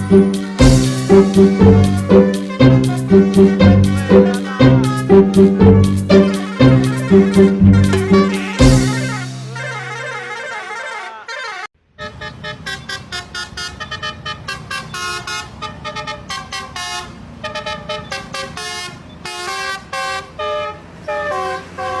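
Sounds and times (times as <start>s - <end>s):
musical air horn tune: 0.0s - 22.0s.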